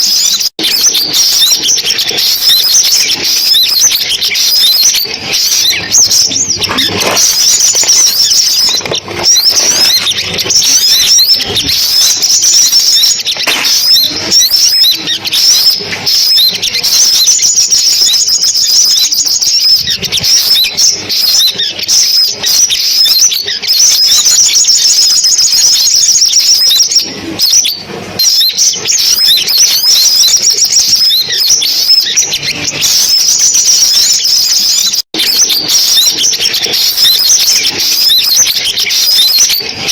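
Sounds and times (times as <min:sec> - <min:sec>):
sunbird twittering and trills: 0:00.0 - 0:39.9.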